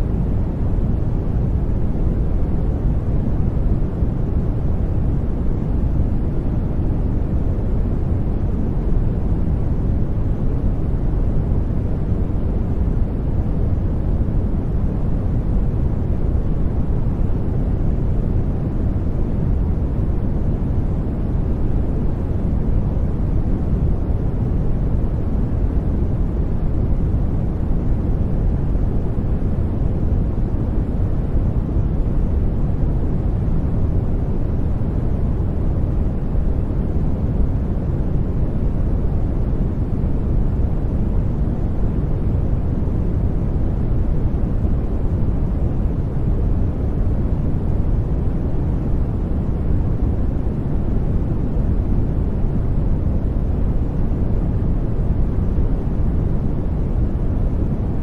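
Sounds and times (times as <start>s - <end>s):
brown noise rumbling hiss: 0.0s - 58.0s.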